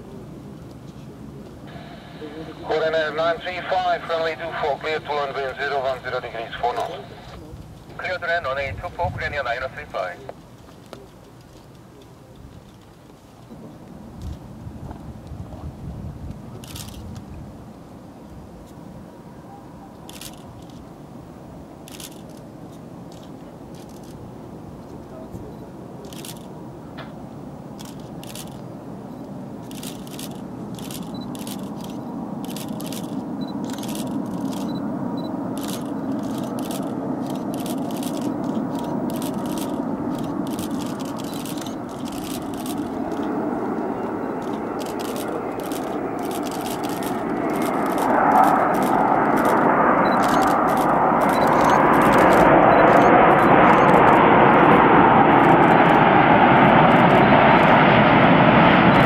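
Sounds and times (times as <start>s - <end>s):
jet airliner engine: 0.0s - 59.0s.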